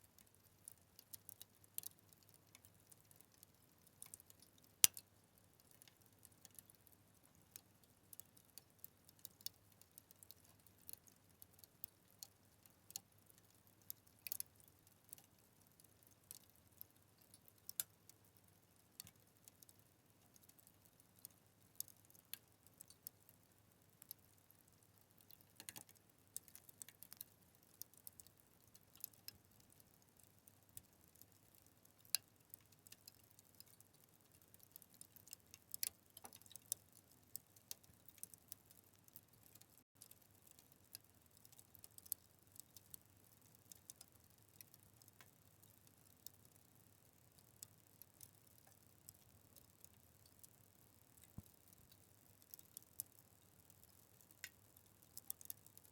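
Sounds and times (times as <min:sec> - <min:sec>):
faint low hiss: 0:00.0 - 0:55.9
wood fire crackling: 0:00.7 - 0:06.8, 0:07.5 - 0:12.3, 0:12.9 - 0:18.2, 0:18.9 - 0:23.3, 0:23.9 - 0:46.4, 0:53.9 - 0:55.9.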